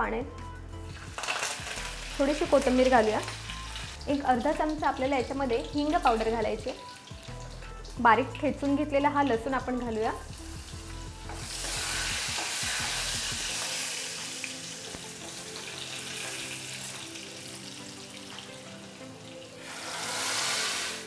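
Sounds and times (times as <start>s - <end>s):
spices sizzling in hot oil: 0.2s - 21.0s.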